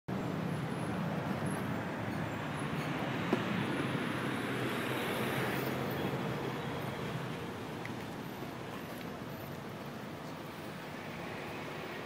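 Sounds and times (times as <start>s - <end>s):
street traffic: 0.1s - 12.0s.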